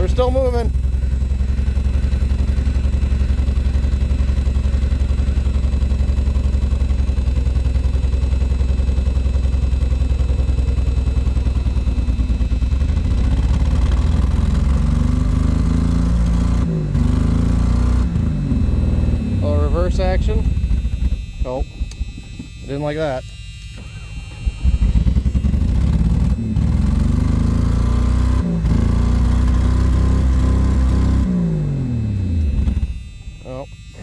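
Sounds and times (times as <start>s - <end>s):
vehicle engine running and revving: 0.0s - 22.6s, 23.7s - 34.0s.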